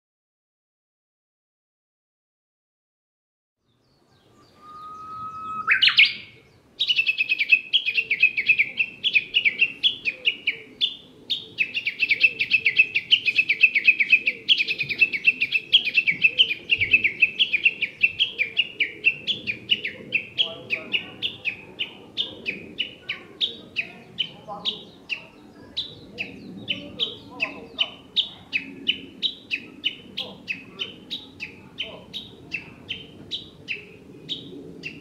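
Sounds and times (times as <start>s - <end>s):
bird singing: 3.6s - 35.0s.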